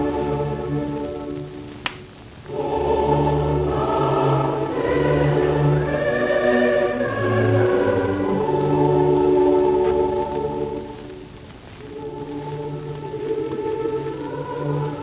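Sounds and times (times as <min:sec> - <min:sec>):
choir with orchestra singing: 0:00.0 - 0:15.0
record crackle: 0:00.0 - 0:15.0.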